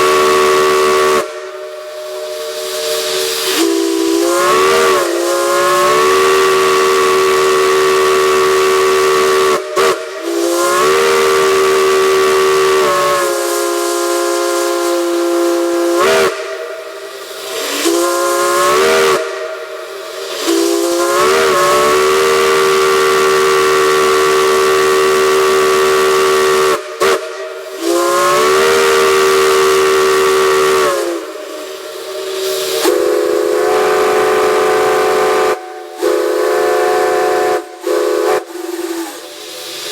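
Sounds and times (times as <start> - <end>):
steam chime whistle blasts: 0.0 - 39.9
steam hissing: 0.0 - 39.9.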